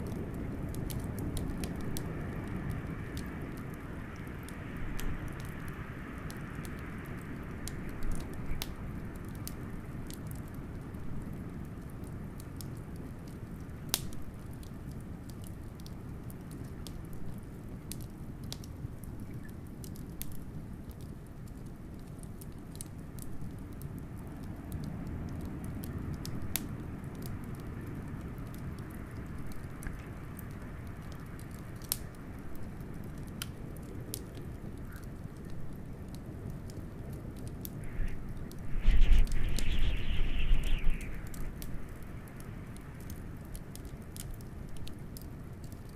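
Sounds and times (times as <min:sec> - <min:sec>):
low blizzard wind: 0:00.0 - 0:18.6, 0:23.2 - 0:45.9
wood fire crackling: 0:00.0 - 0:45.9.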